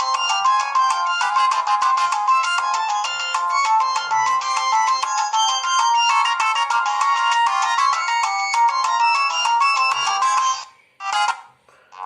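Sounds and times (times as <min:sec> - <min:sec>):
electronic phone ringtone: 0:00.0 - 0:12.0.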